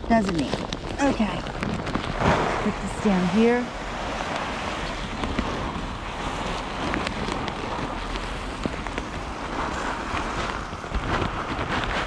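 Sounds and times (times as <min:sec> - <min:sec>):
plastic bag rustling: 0:00.0 - 0:12.0
wind on microphone: 0:00.0 - 0:12.0.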